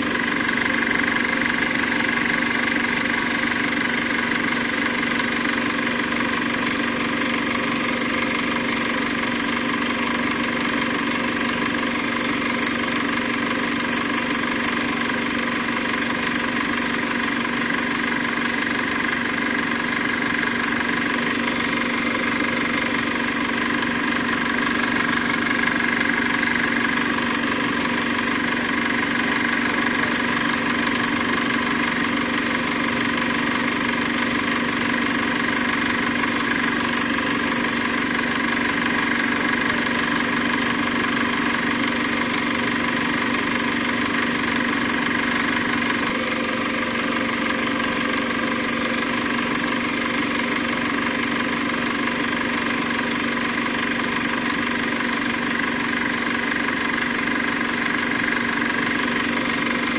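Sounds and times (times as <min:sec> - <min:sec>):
mechanical humming with flutter: 0:00.0 - 0:59.9.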